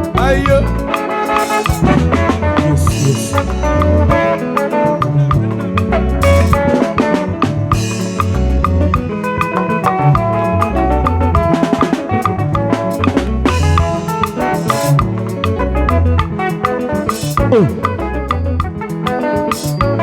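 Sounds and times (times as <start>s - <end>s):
live band instrumental music: 0.0s - 20.0s.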